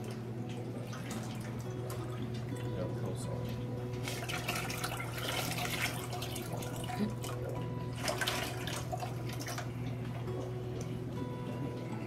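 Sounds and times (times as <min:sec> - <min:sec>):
water pouring into bucket: 0:00.0 - 0:10.3
low hum: 0:00.0 - 0:12.0.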